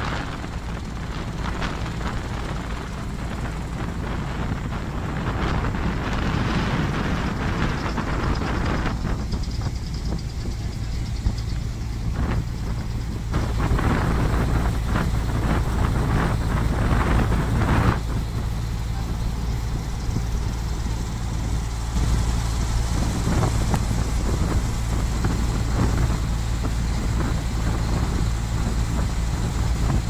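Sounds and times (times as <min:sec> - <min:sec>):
ferry engine droning: 0:00.0 - 0:30.0
wind gusts on microphone: 0:00.0 - 0:30.0.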